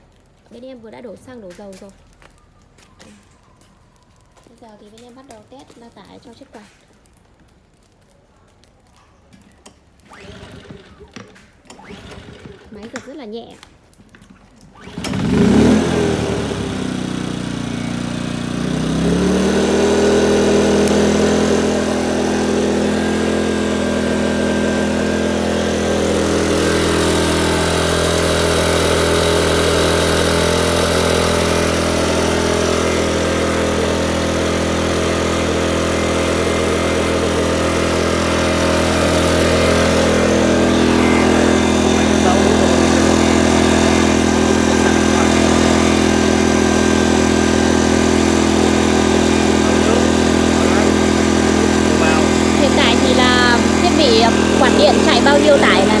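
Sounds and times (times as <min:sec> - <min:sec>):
generator starting and running: 0:09.6 - 0:56.0.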